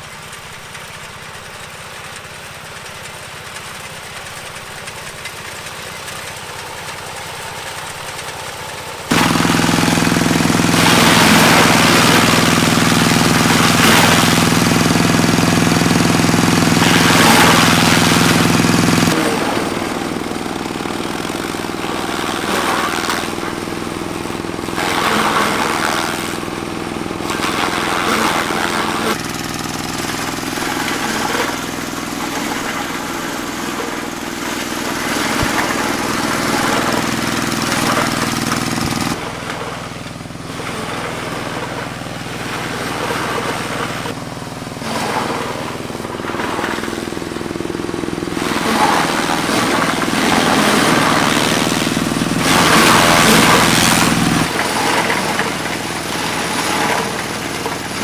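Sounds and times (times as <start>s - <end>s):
forage chopper engine running: 0.0s - 58.0s
stalks cutting and blowing: 9.1s - 58.0s.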